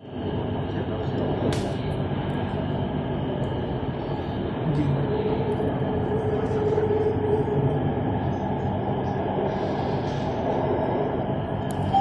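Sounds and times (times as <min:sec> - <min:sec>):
train rumble: 0:00.0 - 0:12.0
train whine: 0:00.0 - 0:12.0.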